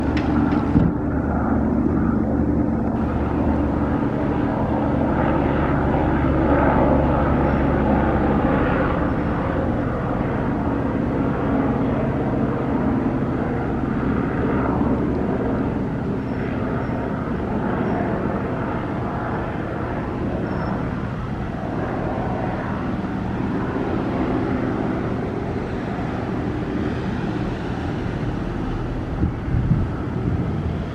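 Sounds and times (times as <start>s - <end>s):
helicopter flying past: 0.0s - 30.9s.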